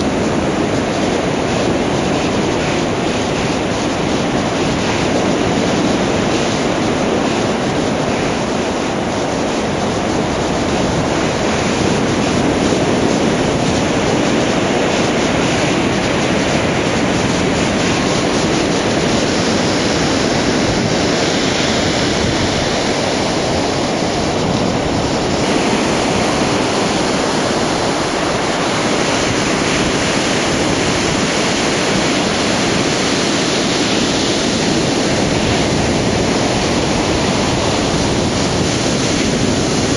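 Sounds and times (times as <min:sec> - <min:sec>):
surf rushing on beach and rocks: 0:00.0 - 0:39.9.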